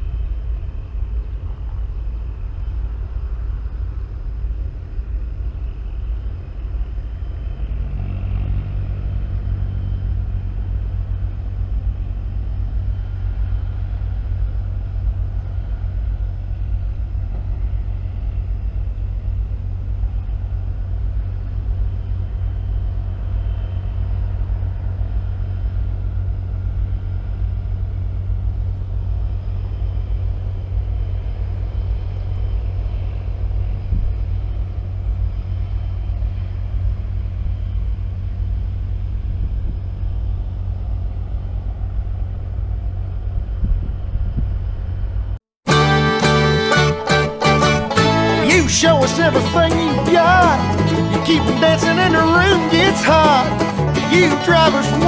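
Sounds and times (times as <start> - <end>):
deep engine drone: 0.0 - 55.0
heavy engine rumbling: 0.0 - 55.0.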